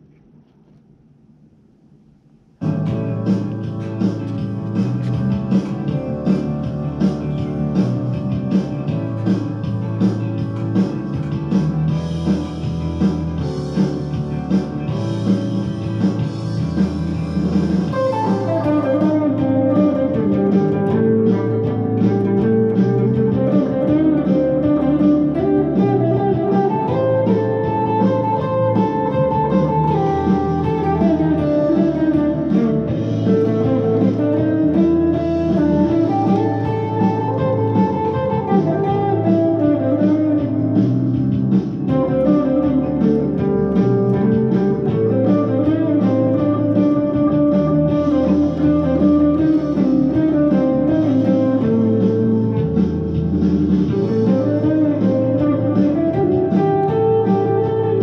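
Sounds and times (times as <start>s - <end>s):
electric guitar solo: 2.6s - 58.0s
uptempo blues backing track: 2.6s - 58.0s.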